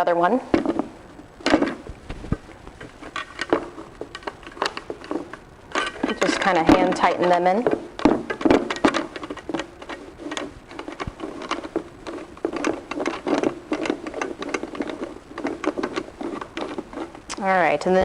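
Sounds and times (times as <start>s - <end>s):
bolts clicking and rattling: 0.5s - 17.3s.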